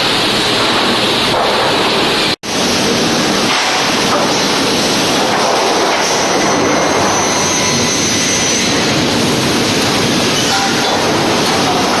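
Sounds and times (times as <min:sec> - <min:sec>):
sawmill machinery din: 0:00.0 - 0:12.0.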